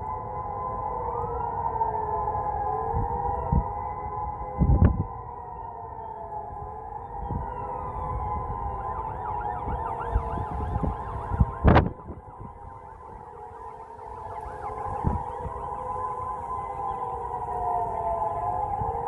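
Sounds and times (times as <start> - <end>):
distant steady siren tones: 0.0 - 19.0
rising and falling siren: 0.0 - 19.0
wind buffeting microphone: 2.6 - 19.0.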